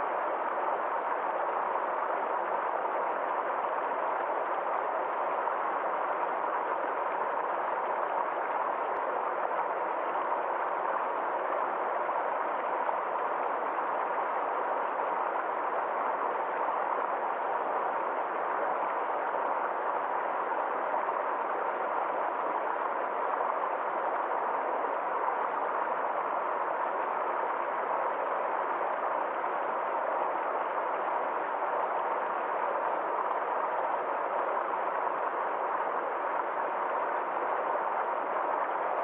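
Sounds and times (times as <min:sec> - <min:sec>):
forest stream flowing: 0:00.0 - 0:39.0.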